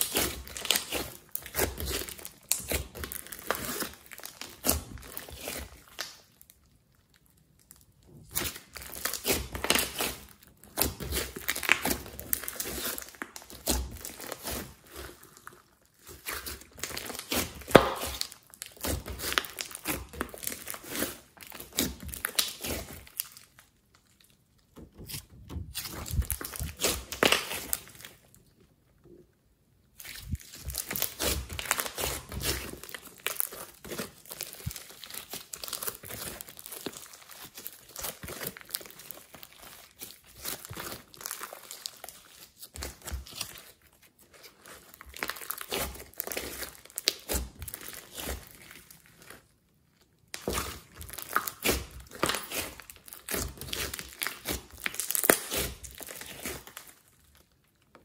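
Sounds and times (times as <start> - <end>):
hands squeezing slime: 0.0 - 28.5, 29.9 - 57.8.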